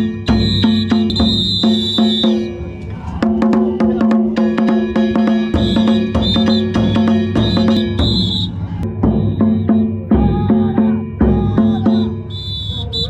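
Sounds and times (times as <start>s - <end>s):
deep drum beats: 0.0s - 12.6s
taiko drums: 0.0s - 12.6s.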